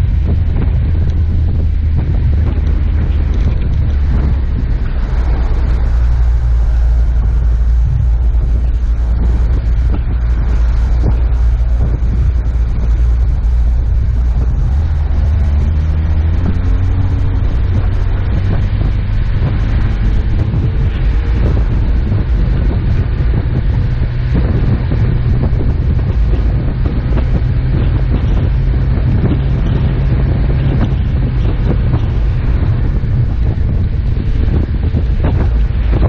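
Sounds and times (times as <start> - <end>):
off-road vehicle engine rumble: 0.0 - 36.0
wind buffeting microphone: 0.0 - 36.0.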